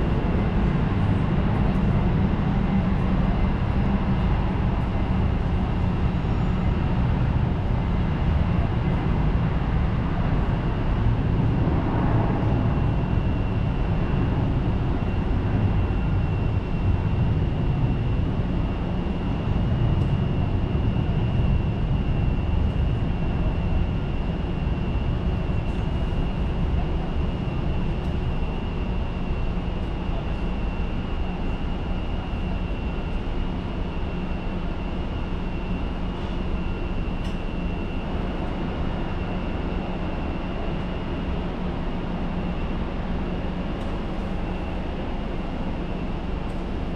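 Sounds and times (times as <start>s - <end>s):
jet engines rumbling and whining: 0.0s - 46.9s.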